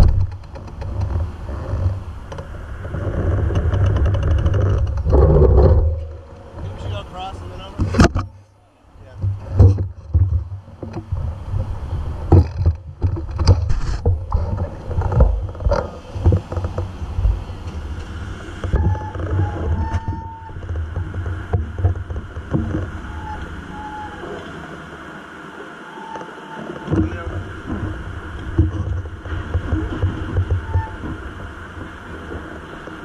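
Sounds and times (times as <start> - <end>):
bicycle knocks and rattles: 0.0 - 7.0, 9.1 - 24.0, 26.8 - 33.0
wind and road noise: 0.0 - 33.0.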